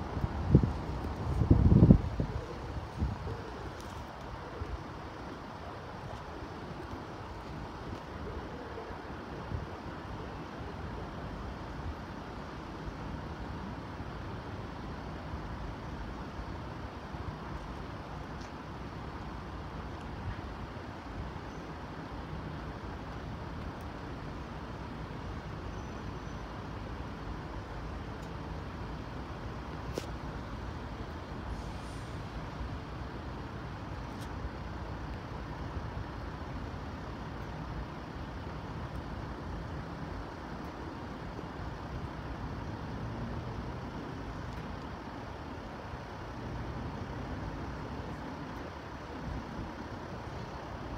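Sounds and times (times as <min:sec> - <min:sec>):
road traffic noise: 0:00.0 - 0:50.9.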